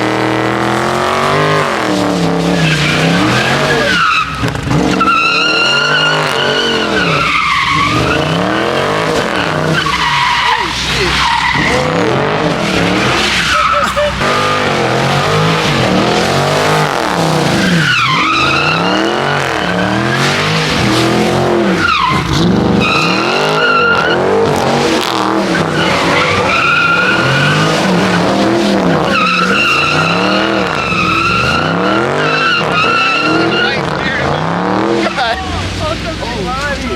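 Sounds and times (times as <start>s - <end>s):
car engine revving: 0.0s - 36.9s
tyres squealing: 0.1s - 35.7s.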